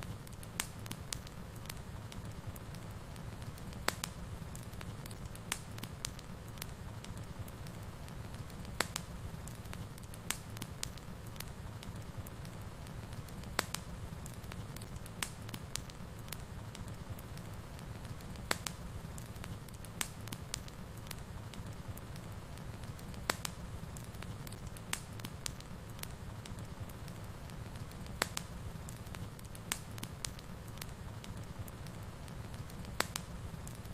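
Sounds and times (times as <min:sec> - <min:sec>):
burning wood crackling and popping: 0:00.0 - 0:33.9
low rumble of flame: 0:00.0 - 0:33.9.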